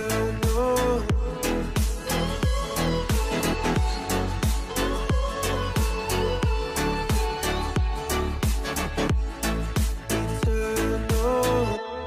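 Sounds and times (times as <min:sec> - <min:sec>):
electronic pop music: 0:00.0 - 0:12.0.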